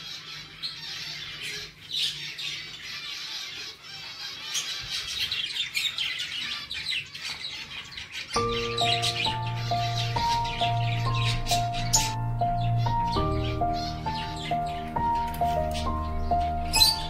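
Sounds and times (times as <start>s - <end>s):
lovebirds chattering: 0.0s - 17.0s.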